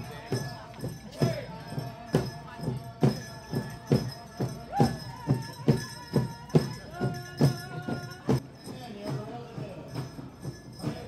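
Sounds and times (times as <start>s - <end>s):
singers' voices: 0.0s - 11.0s
steady drumbeat: 0.0s - 11.0s.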